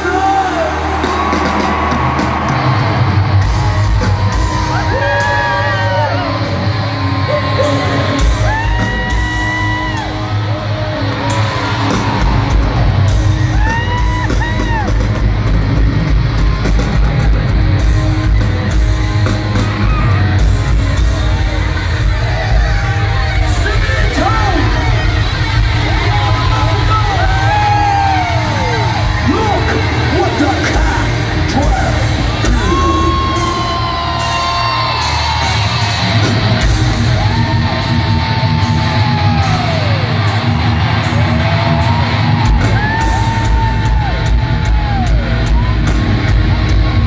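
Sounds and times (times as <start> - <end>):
crowd yelling and whooping: 0.0 - 47.0
heavy drums: 0.0 - 47.0
metal band playing live: 0.0 - 47.0.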